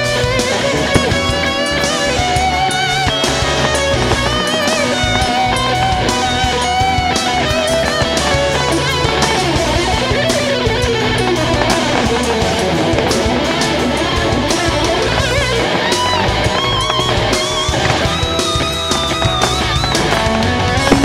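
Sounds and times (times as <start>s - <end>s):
electric guitar lead bending: 0.0s - 21.0s
rock music: 0.0s - 21.0s.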